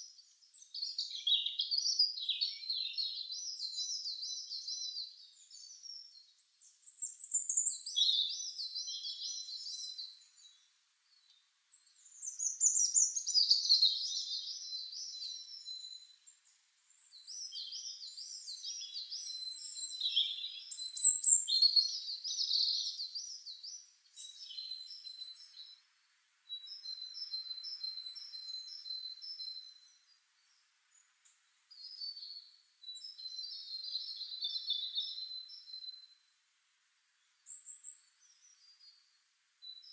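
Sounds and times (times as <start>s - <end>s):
songbird singing trills: 0.0s - 36.4s, 37.2s - 39.9s.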